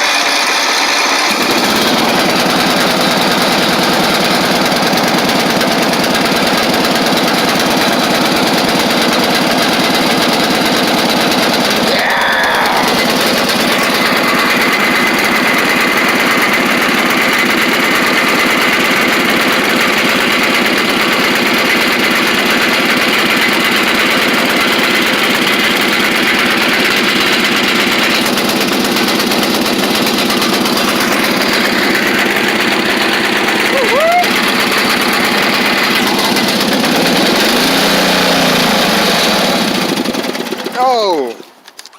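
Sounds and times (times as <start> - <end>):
small gasoline engine running: 0.0 - 41.4.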